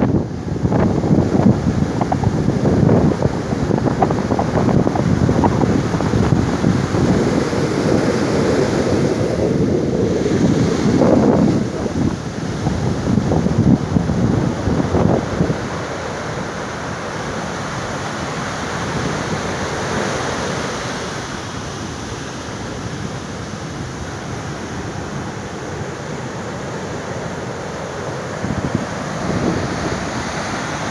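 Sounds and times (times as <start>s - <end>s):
ocean surf washing: 0.0s - 30.9s
wind buffeting microphone: 0.0s - 30.9s.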